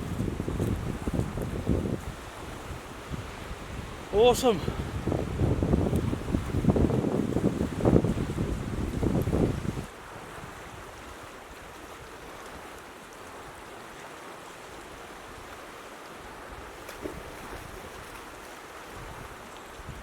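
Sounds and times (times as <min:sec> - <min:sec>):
fast-flowing creek water: 0:00.0 - 0:20.0.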